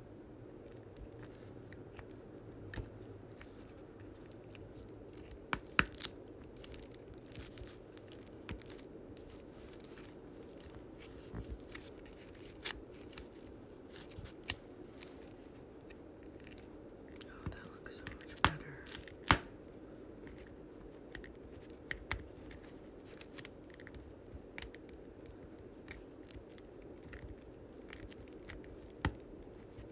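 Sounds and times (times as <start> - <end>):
low background hum: 0.0 - 29.9.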